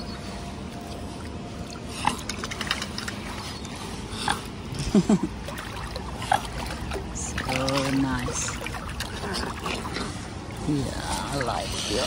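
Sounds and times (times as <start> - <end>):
wind: 0.0 - 12.0
water lapping against rocks: 0.8 - 12.0.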